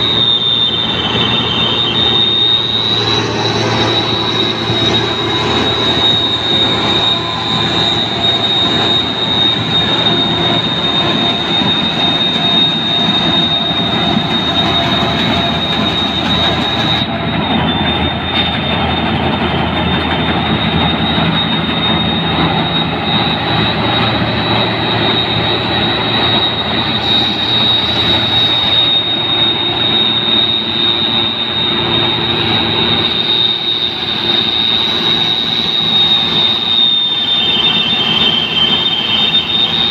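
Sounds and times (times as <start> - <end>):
combine harvester drone: 0.0 - 39.9
high-pitched machine whine: 0.0 - 39.9.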